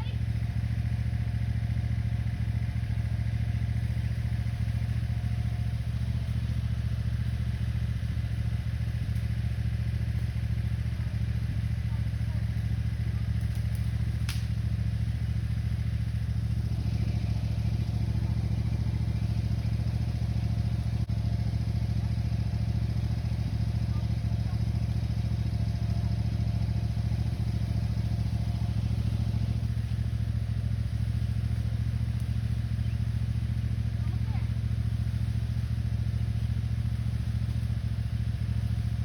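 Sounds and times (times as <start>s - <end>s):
lawn tractor engine running: 0.0s - 39.0s.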